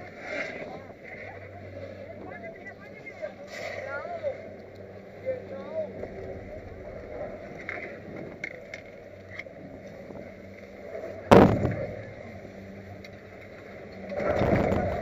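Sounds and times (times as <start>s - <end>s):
chairlift rumble: 0.0s - 15.0s.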